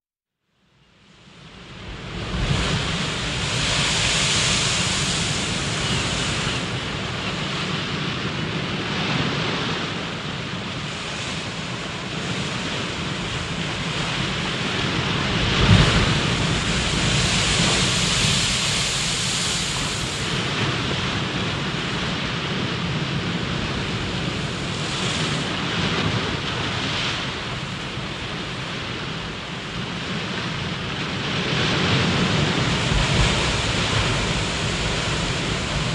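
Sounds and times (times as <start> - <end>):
water rushing: 1.8 - 8.9, 9.6 - 35.9.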